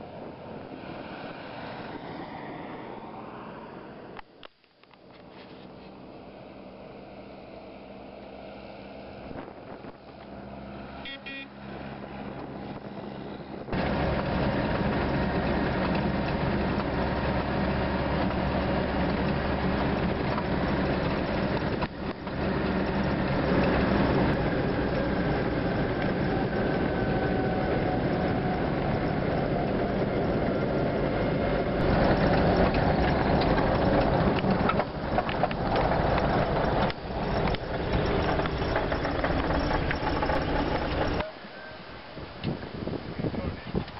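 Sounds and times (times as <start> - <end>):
loud engine and road noise: 0.0 - 43.9
quiet engine hum: 0.0 - 43.9.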